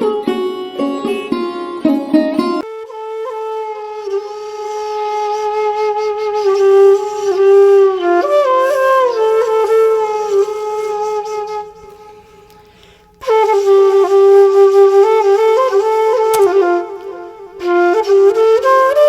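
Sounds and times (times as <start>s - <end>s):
solo flute melody: 0.0s - 1.7s, 2.6s - 19.0s.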